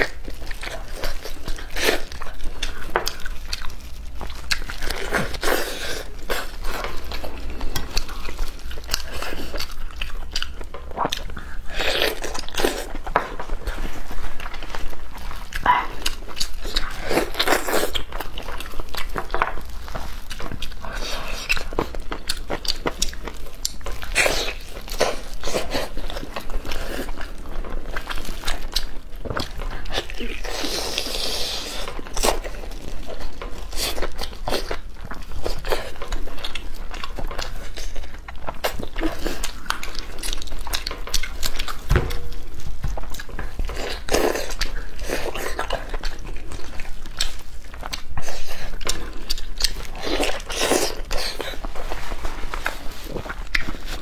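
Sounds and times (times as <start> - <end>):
chewing and tearing meat: 0.0 - 54.0.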